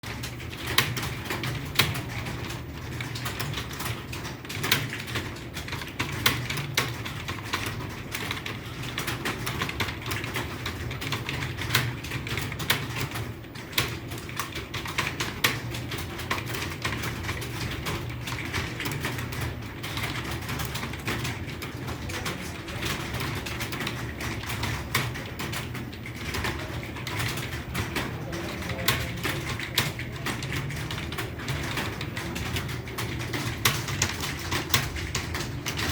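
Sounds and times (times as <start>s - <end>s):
typing on computer keyboard: 0.0s - 35.9s.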